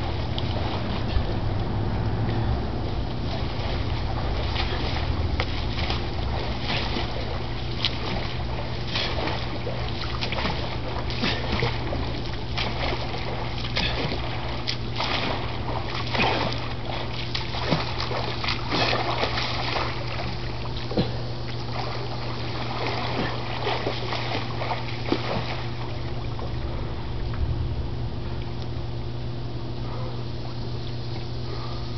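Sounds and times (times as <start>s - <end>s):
person swimming splashing: 0.0s - 27.2s
steady low hum: 0.0s - 31.9s.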